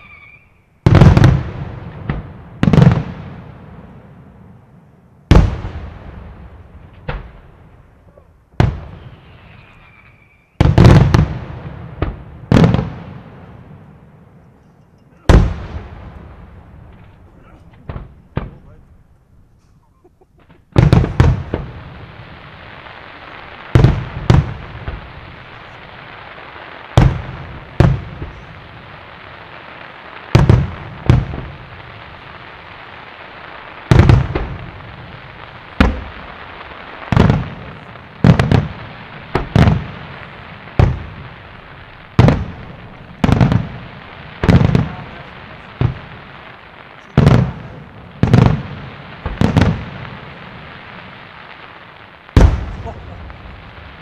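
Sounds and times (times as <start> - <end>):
fireworks booming: 0.0 - 54.0
steady hiss: 0.0 - 54.0.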